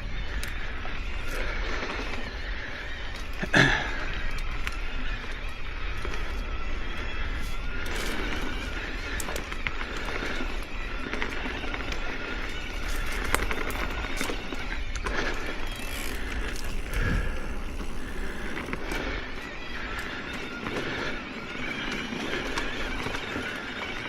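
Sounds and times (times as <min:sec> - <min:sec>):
bike rattles and clicks: 0:00.0 - 0:24.0
tyres crunching over gravel: 0:00.0 - 0:24.0
wind rumble on microphone: 0:00.0 - 0:24.0.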